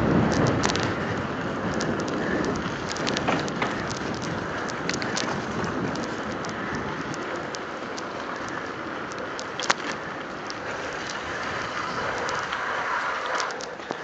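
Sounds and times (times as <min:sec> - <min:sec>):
bike tyre hiss on wet street: 0:00.0 - 0:13.8
bike clicks and rattles: 0:00.0 - 0:14.0.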